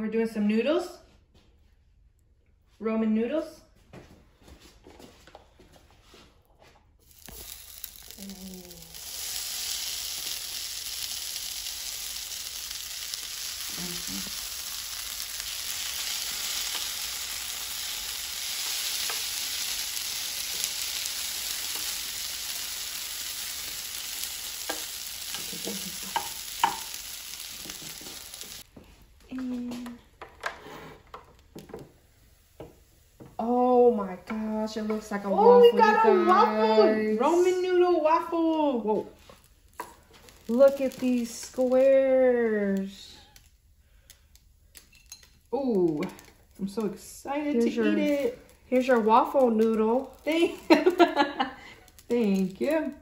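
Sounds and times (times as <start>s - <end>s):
noodles sizzling on hot plates: 7.0s - 28.7s, 29.6s - 53.0s.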